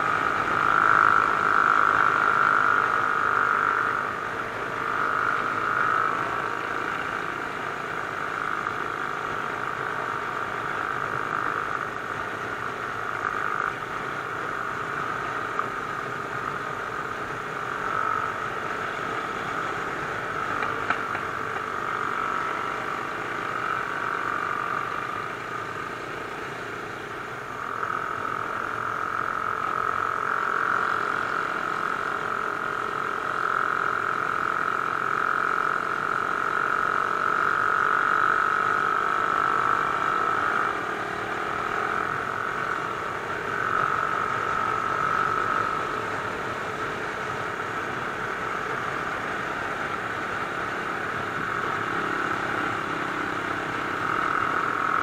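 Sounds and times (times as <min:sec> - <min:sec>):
motorcycle engine and exhaust: 0:00.0 - 0:55.0.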